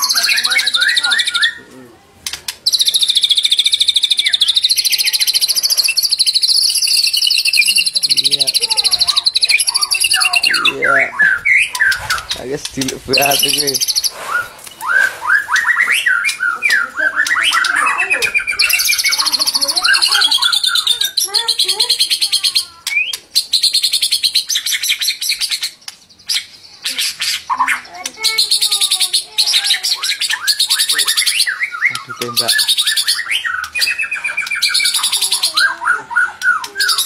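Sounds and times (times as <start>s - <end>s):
bird whistled phrases: 0.0s - 1.7s, 2.6s - 12.4s, 13.2s - 37.0s.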